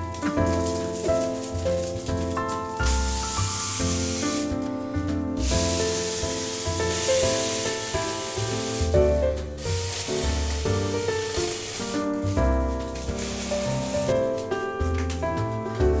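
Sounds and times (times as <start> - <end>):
background music with bass line: 0.0 - 16.0
rubbing hissing noise: 0.0 - 16.0.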